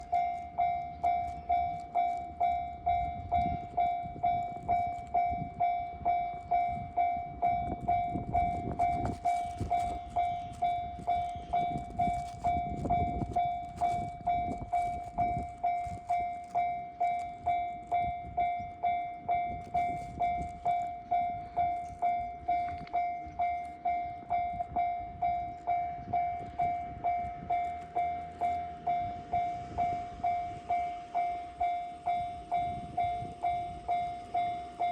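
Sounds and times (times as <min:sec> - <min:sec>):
level crossing warning bell: 0:00.0 - 0:34.9.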